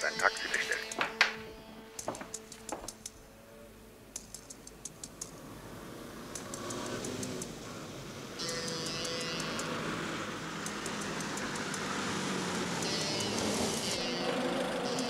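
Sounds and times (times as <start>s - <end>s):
soft sharp ticking: 0.0s - 3.3s, 4.0s - 14.0s
car engine: 0.0s - 15.0s.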